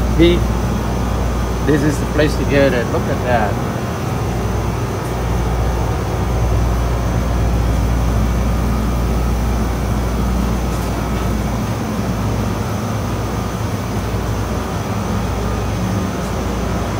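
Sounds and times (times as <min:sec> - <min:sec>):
refrigerated display cases humming: 0:00.0 - 0:16.9.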